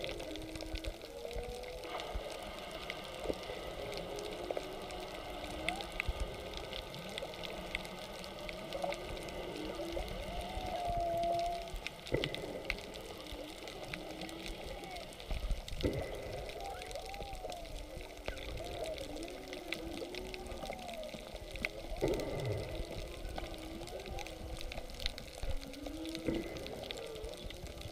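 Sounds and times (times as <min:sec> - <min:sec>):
faint clicks: 0:00.0 - 0:27.9
whale song moans and calls: 0:00.0 - 0:27.9.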